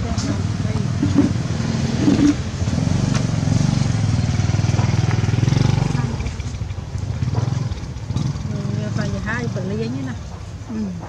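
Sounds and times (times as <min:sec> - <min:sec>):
engine running with low rumble: 0:00.0 - 0:11.0.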